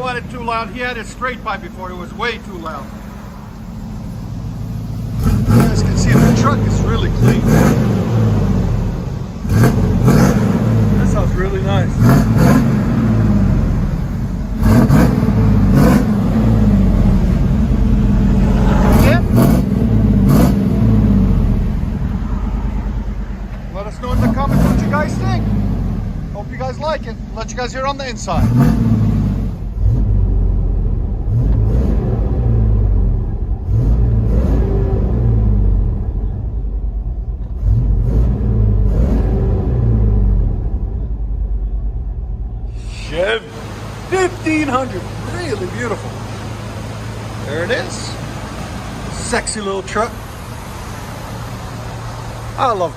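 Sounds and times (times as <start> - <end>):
truck engine idling and revving: 0.0 - 52.9.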